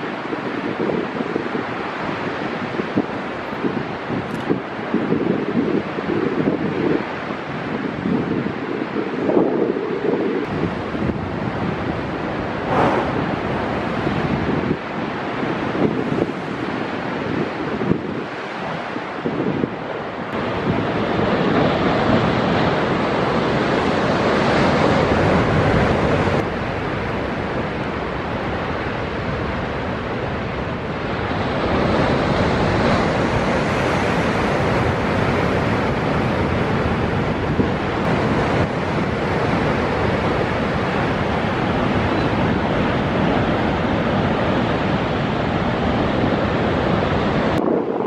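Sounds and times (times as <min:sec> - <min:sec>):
blowholes jetting spray with roar: 0:00.0 - 0:48.0
rough sea surging against cliffs: 0:00.0 - 0:48.0
wind buffeting microphone: 0:00.0 - 0:48.0.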